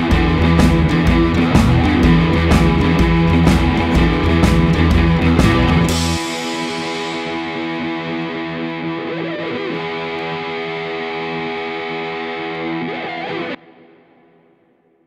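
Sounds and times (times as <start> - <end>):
distorted electric guitar chords: 0.0 - 14.9.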